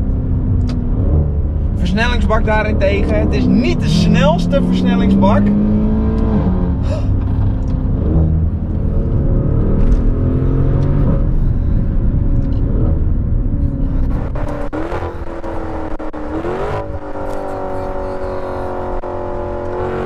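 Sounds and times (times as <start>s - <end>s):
car engine accelerating hard: 0.0s - 20.0s
exhaust cracks: 0.0s - 20.0s.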